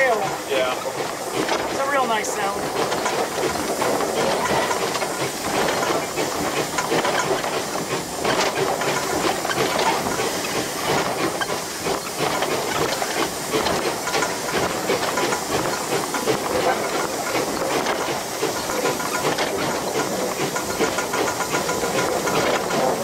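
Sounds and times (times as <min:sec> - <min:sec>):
locomotive mechanical clatter: 0:00.0 - 0:23.0
steam hissing: 0:00.0 - 0:23.0.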